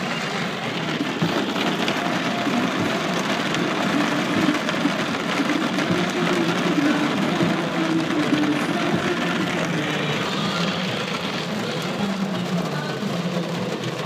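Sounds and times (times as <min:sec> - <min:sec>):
car engine: 0:00.0 - 0:14.0
rain pattering on a car: 0:00.0 - 0:14.0.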